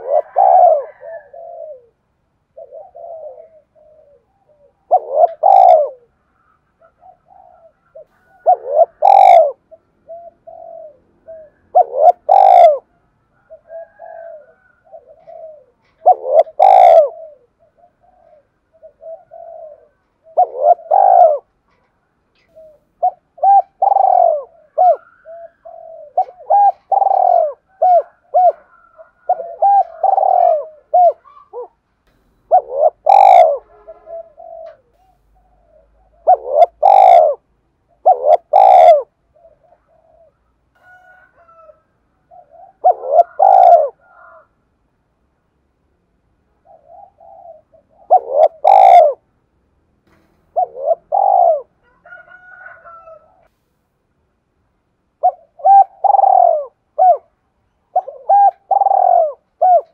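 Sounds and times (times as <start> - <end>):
dove cooing: 0.0 - 44.6, 46.5 - 49.3, 50.1 - 53.5, 55.2 - 59.9.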